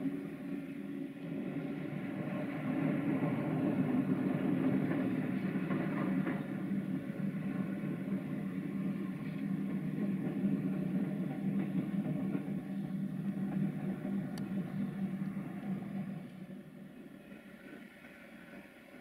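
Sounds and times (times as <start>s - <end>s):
distant electric locomotive hum: 0.0s - 19.0s.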